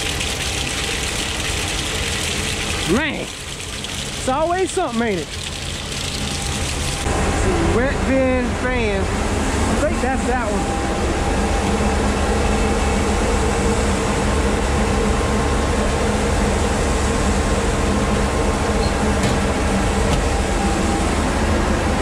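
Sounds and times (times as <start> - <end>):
grain dryer fans droning: 0.0 - 22.0.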